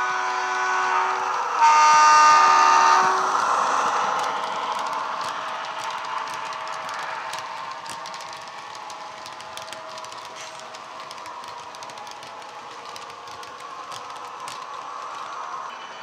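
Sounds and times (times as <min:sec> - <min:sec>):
model wagon wheels clicking: 0:02.9 - 0:16.0.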